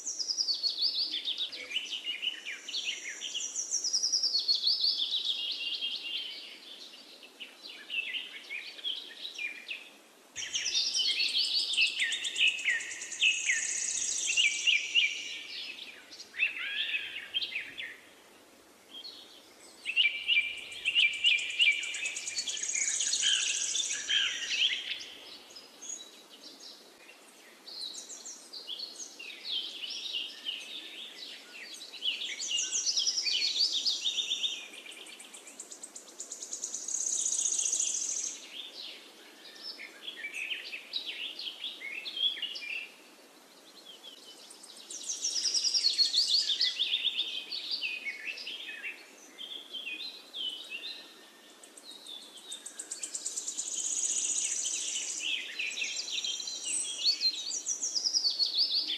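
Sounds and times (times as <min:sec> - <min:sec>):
small birds chirping and twittering: 0:00.0 - 0:58.9.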